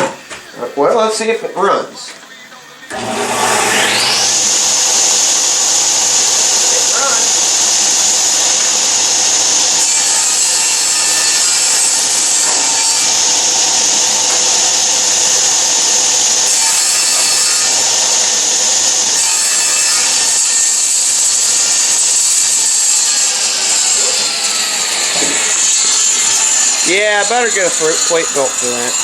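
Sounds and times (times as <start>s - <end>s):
saw blade hissing through wood: 2.9s - 29.0s
table saw motor hum: 2.9s - 29.0s.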